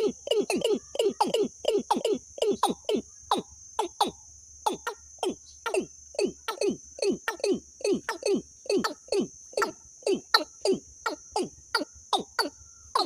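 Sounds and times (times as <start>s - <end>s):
high insect-like buzz: 0.0s - 13.0s.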